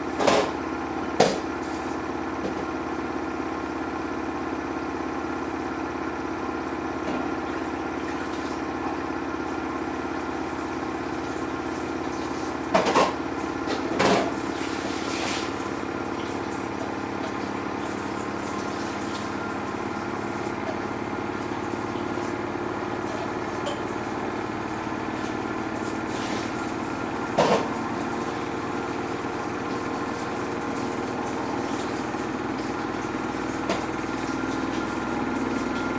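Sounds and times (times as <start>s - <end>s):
washing machine motor hum: 0.0s - 35.9s.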